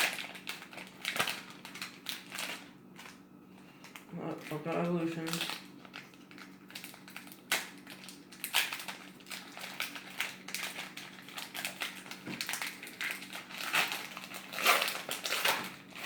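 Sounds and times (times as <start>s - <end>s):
foil pack crinkling: 0.0s - 16.0s.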